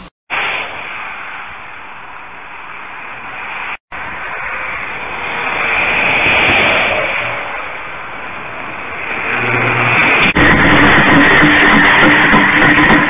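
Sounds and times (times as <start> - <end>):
cars passing on highway: 0.0 - 13.0.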